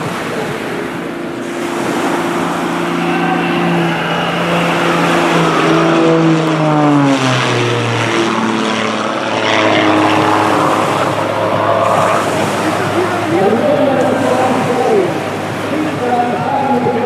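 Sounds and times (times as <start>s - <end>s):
propeller plane droning past: 0.0s - 17.0s.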